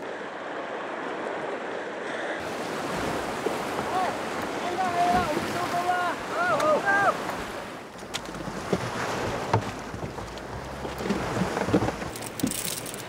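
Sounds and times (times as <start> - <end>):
waves washing on rocky shore: 0.0 - 13.0.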